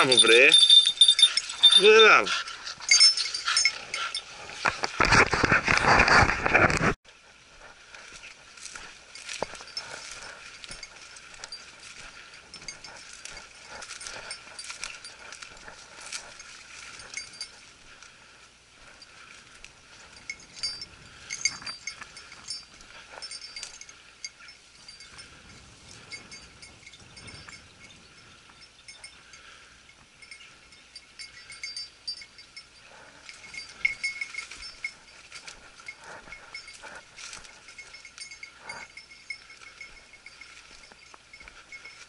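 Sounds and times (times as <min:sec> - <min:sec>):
dog collar bell tinkling: 0:00.0 - 0:05.0, 0:08.7 - 0:18.0, 0:18.8 - 0:42.0
footsteps in dry grass: 0:00.0 - 0:42.0.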